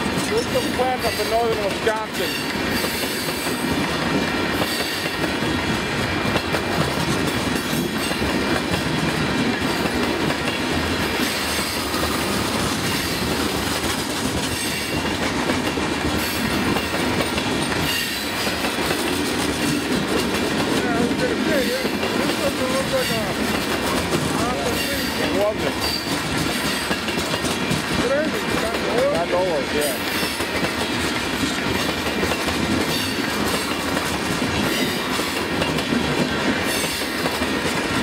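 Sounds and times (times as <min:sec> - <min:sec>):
freight cars rolling on rails: 0:00.0 - 0:38.0
wheels clacking over rail joints: 0:00.0 - 0:38.0.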